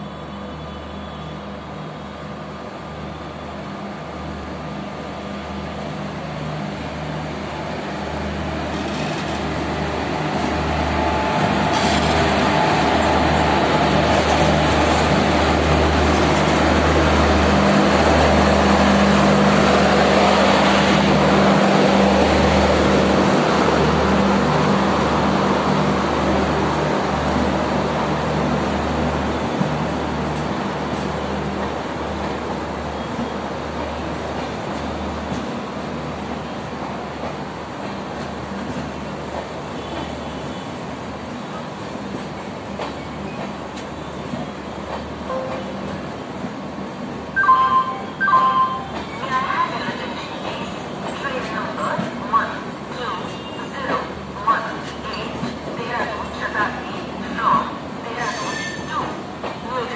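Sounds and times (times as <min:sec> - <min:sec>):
train coaches rumbling: 0:01.4 - 0:59.9
electric locomotive humming: 0:01.8 - 0:59.9.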